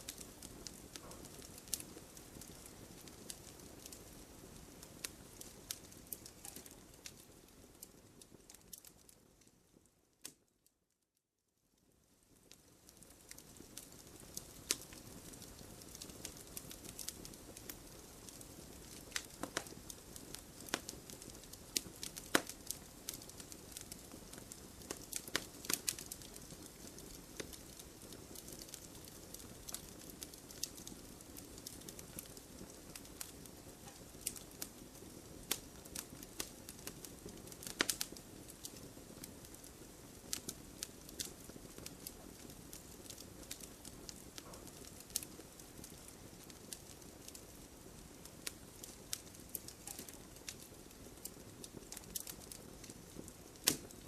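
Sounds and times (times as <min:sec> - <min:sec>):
campfire pops and snaps: 0:00.0 - 0:07.3, 0:12.5 - 0:47.5, 0:48.4 - 0:54.0
hiss of flames: 0:00.0 - 0:08.8, 0:12.4 - 0:54.0.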